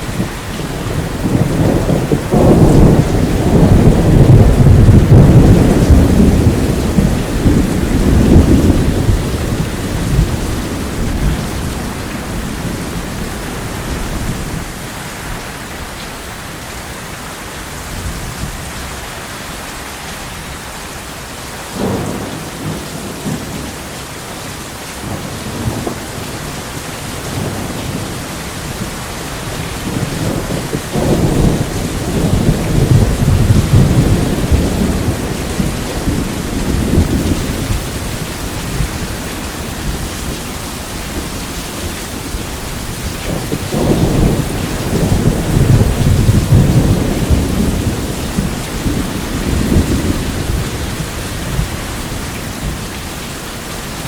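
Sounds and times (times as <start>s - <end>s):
rolling thunder: 0.0s - 14.8s, 21.7s - 23.9s, 25.0s - 53.1s
heavy rain: 0.0s - 54.0s.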